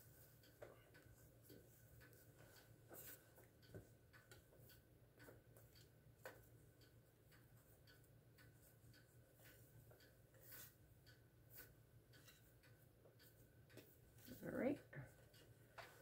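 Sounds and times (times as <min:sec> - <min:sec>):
wig rustling and clicking: 0:00.0 - 0:06.6, 0:07.3 - 0:16.0.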